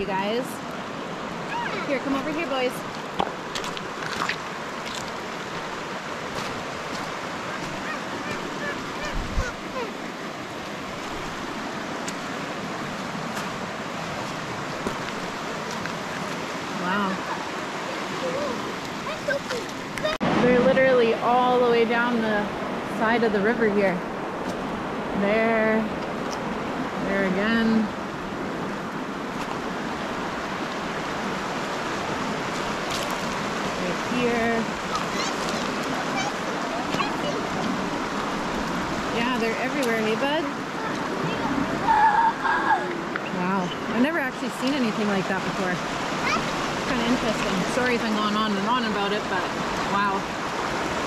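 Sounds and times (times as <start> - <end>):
water rushing over rocks: 0.0 - 51.0.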